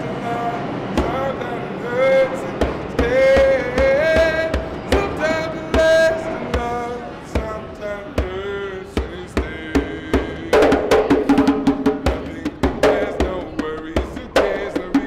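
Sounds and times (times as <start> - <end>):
man singing wordless vocals: 0.0 - 15.0.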